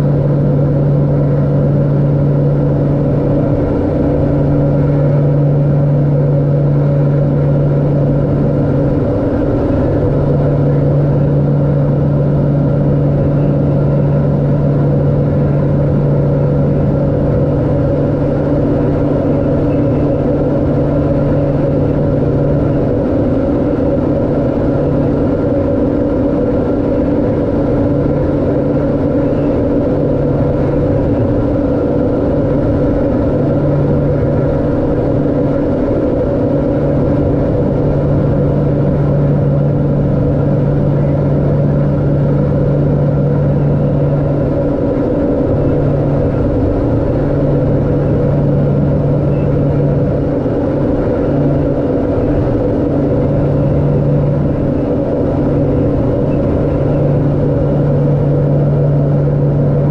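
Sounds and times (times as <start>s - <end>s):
low propeller hum: 0.0s - 59.9s
turboprop engine drone: 0.0s - 59.9s.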